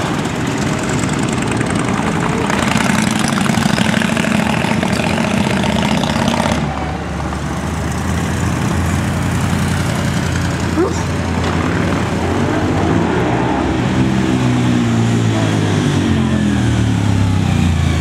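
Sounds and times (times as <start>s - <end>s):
motorcycles riding past: 0.0s - 18.0s.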